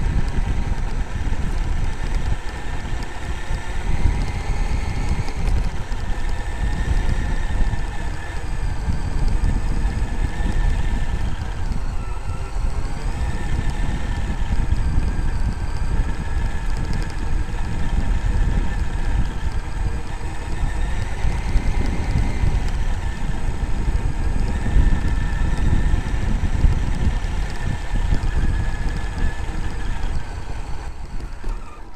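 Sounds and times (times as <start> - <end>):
electric motor whining: 0.0 - 31.9.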